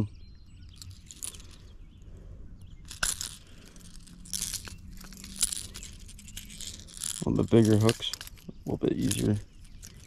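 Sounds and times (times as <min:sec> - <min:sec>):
fishing hooks clicking and rattling: 0:00.7 - 0:01.6, 0:02.8 - 0:10.0.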